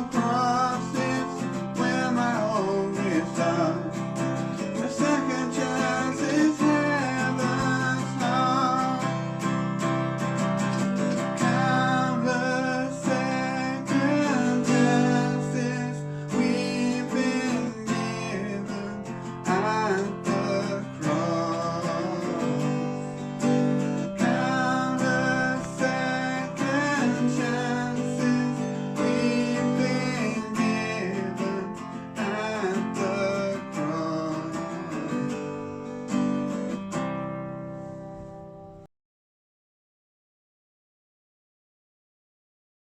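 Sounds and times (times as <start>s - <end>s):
strummed acoustic guitar music: 0.0s - 38.8s.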